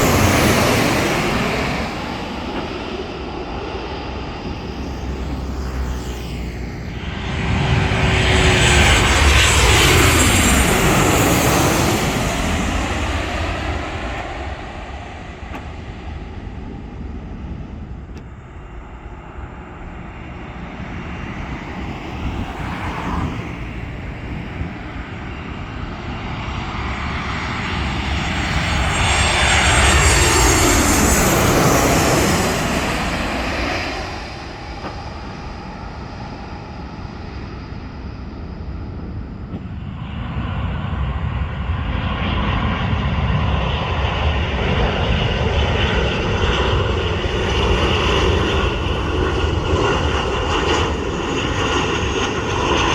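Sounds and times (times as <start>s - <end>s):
another aircraft: 0.0s - 52.9s
jet airliner flying past: 0.0s - 52.9s.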